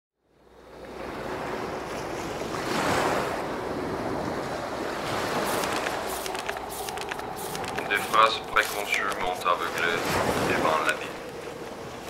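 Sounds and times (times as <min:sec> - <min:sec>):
wind: 0:00.2 - 0:12.0
surf rushing: 0:00.8 - 0:12.0.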